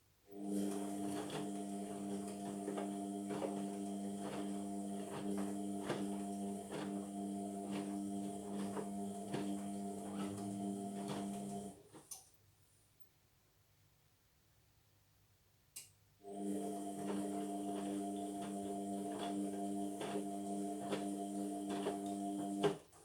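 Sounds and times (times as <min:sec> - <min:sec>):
washing machine motor hum: 0:00.3 - 0:12.0, 0:16.2 - 0:23.0.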